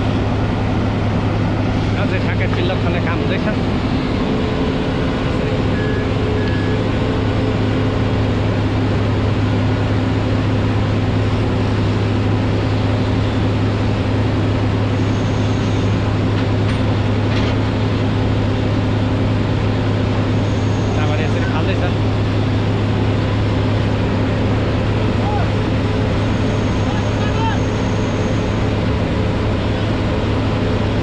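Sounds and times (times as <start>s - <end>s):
diesel engine running under load: 0.0s - 31.0s
drilling rig low hum: 0.0s - 31.0s.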